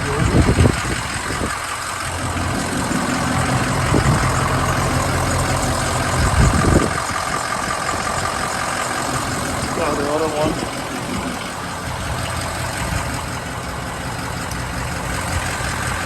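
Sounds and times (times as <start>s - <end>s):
van engine idling: 0.0s - 16.0s.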